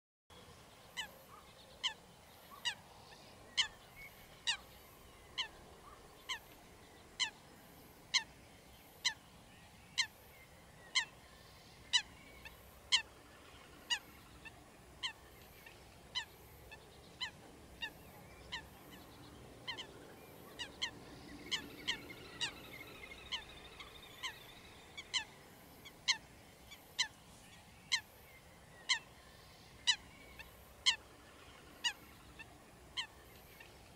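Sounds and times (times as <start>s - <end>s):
faint steady background noise: 0.3s - 33.9s.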